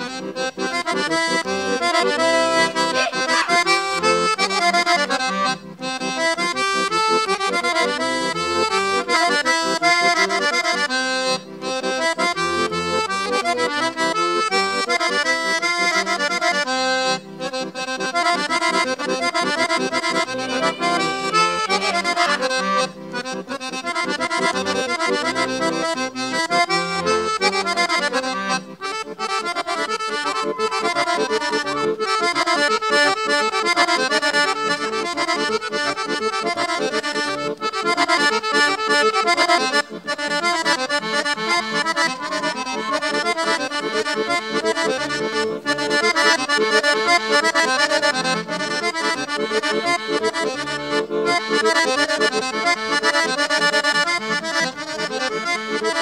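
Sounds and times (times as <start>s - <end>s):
accordion playing folk dance tune: 0.0s - 56.0s.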